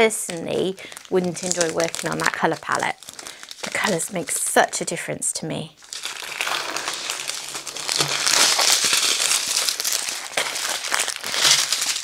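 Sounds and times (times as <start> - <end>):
plastic bags crinkling: 0.0 - 4.9, 5.8 - 12.0.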